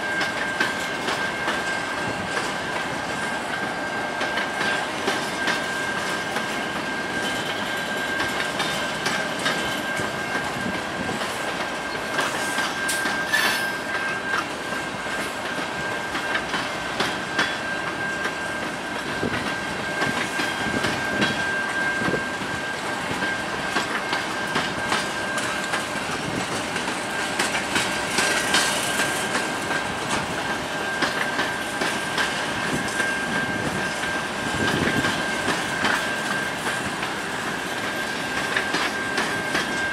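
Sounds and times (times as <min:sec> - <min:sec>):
freight train rumble: 0:00.0 - 0:39.9
train wheels clacking over rail joints: 0:00.0 - 0:39.9.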